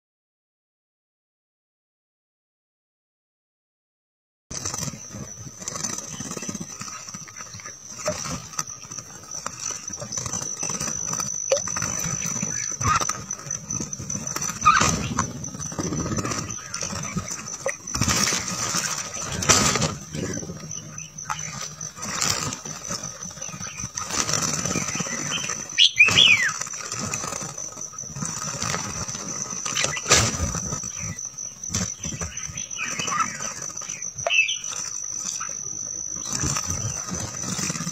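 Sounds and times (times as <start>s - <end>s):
steady high-pitched whine: 4.5s - 37.9s.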